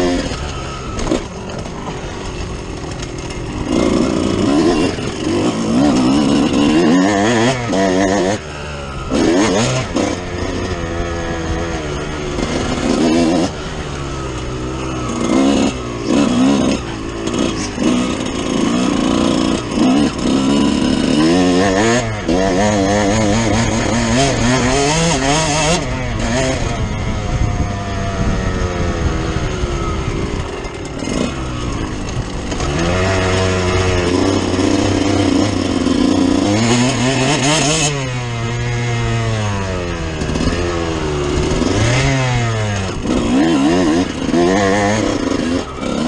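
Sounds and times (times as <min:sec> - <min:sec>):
two-stroke motorcycle engine revving: 0:00.0 - 0:46.0.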